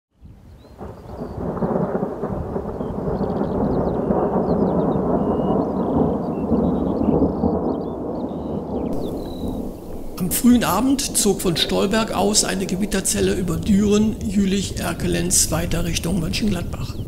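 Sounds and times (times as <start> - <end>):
rain: 0.2 - 17.0
thunder rumbling: 0.8 - 17.0.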